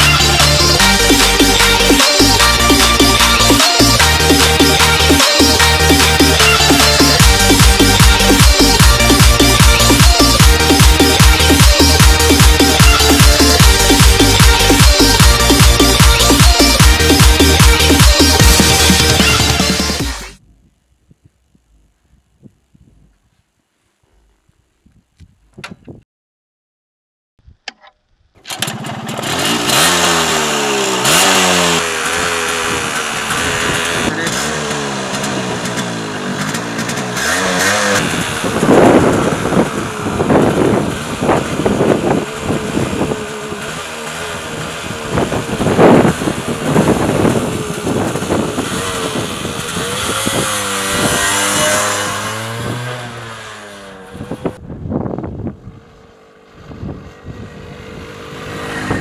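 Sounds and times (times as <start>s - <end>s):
two-stroke motorcycle engine revving: 0.0s - 20.4s, 28.4s - 59.0s.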